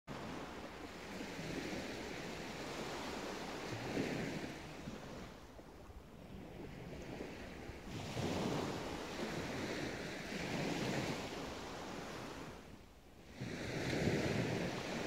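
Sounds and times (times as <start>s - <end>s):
sea waves breaking on shore: 0.1s - 15.0s.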